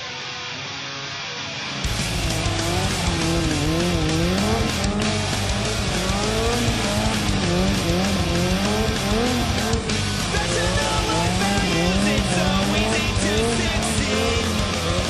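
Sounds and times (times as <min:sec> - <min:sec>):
background music: 0:00.0 - 0:15.0
motorcycle engine revving: 0:01.8 - 0:15.0.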